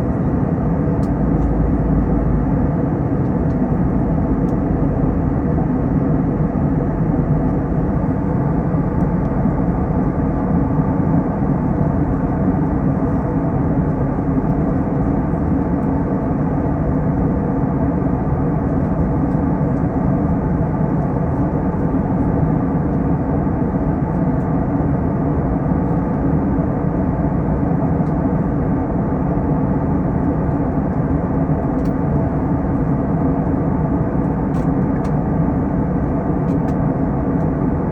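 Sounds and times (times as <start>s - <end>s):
airliner jet engine drone: 0.0s - 37.9s.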